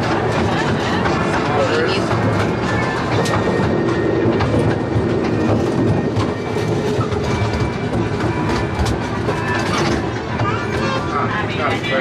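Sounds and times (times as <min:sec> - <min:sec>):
train rumble: 0:00.0 - 0:12.0
train wheels clicking on rails: 0:00.0 - 0:12.0.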